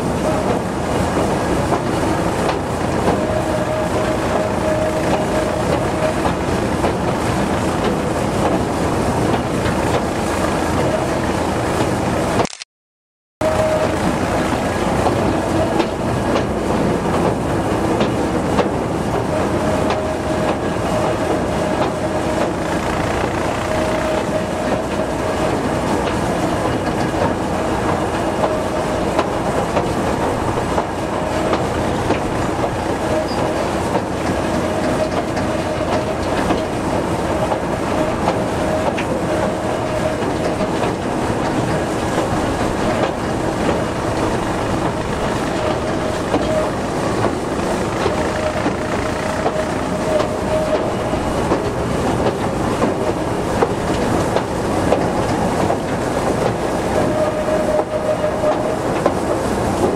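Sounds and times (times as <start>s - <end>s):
train wheels on track: 0.0s - 12.5s, 13.4s - 59.9s
diesel locomotive engine: 0.0s - 12.6s, 13.4s - 59.9s.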